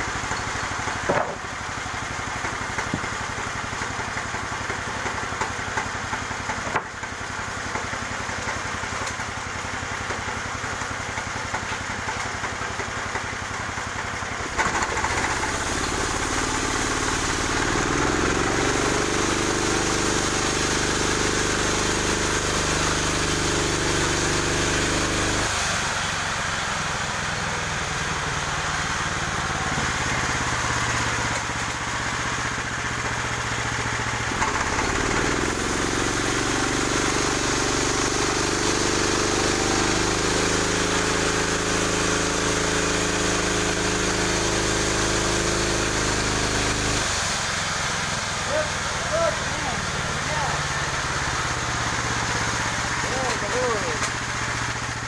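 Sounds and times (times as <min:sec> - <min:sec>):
band sawmill cutting log: 0:00.0 - 0:55.0.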